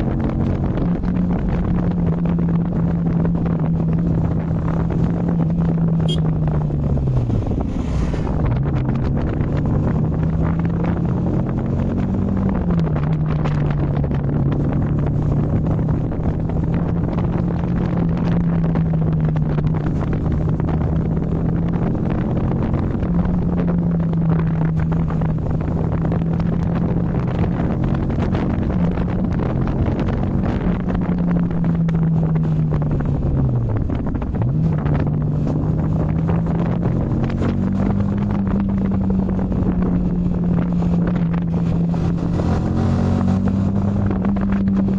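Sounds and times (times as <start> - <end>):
wind buffeting microphone: 0.0 - 44.9
motorcycle engine under way: 8.4 - 44.9.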